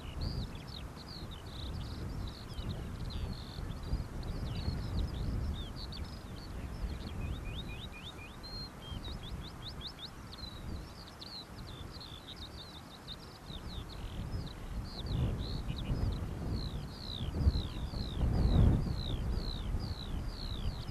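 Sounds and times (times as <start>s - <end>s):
songbird singing: 0.0s - 20.9s
wind rumble on microphone: 0.0s - 20.9s.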